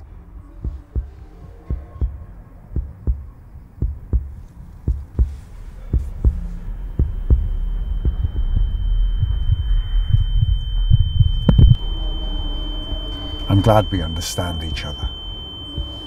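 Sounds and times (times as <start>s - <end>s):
heartbeat-like thumping: 0.0s - 16.0s
high-pitched ringing tone: 0.0s - 16.0s
low rumble: 0.0s - 16.0s.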